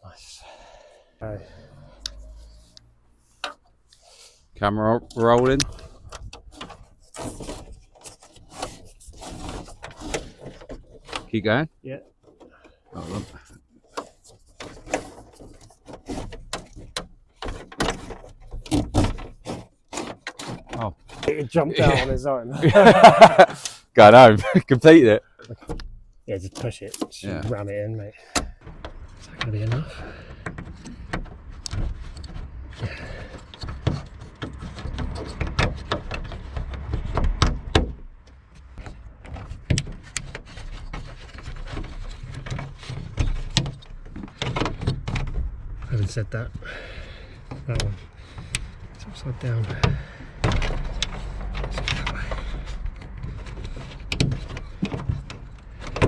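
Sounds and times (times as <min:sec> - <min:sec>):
car door metal clunks and scraping: 0:01.2 - 0:23.6, 0:25.5 - 0:56.0.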